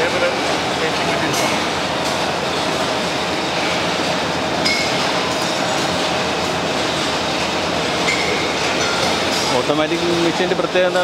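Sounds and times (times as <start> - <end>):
bottling machinery running: 0.0 - 11.0.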